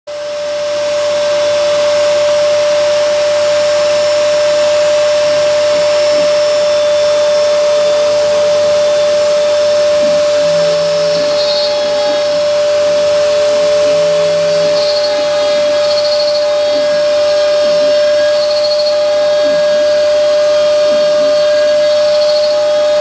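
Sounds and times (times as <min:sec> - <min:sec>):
router spindle whining: 0:00.1 - 0:23.0.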